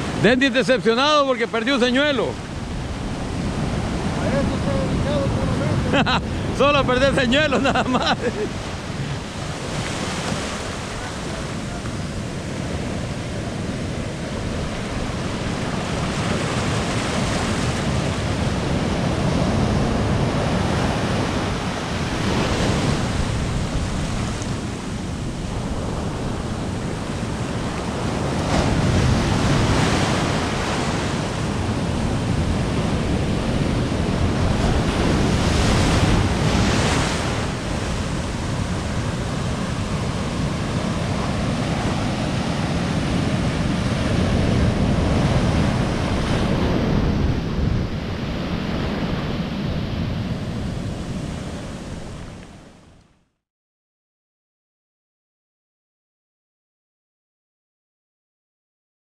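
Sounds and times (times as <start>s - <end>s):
ocean surf breaking: 0.0s - 53.1s.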